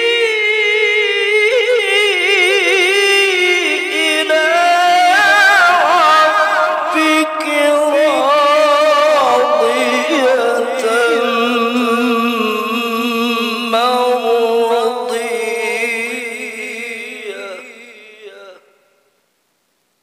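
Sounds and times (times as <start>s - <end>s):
man chanting a long note: 0.0s - 18.6s.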